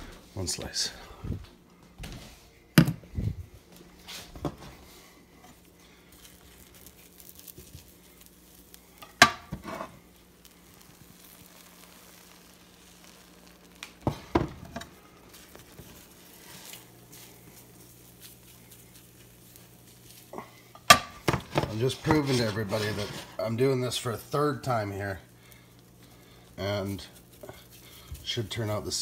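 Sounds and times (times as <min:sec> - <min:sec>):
egg sizzling in frying pan: 0:05.2 - 0:29.0.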